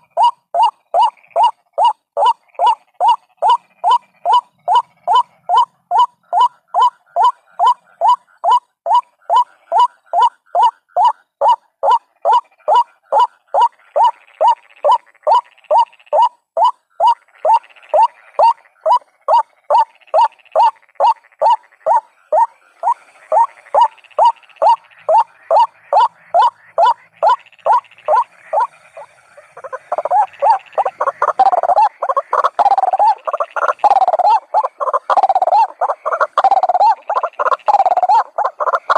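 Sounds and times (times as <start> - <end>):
waterhen calling: 0.0 - 38.9.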